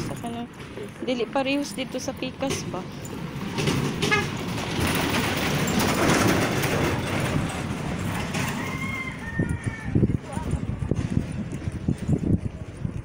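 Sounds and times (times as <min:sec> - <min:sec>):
vehicle passing on gravel road: 0:00.0 - 0:12.8.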